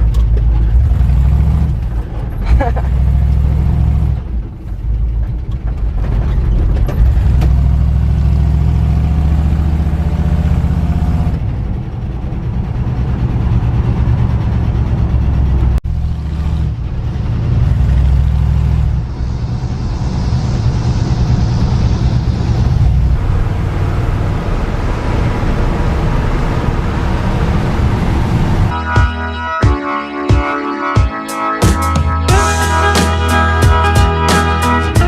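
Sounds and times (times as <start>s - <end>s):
road noise: 0.0s - 29.4s
truck engine rumble: 0.0s - 29.6s.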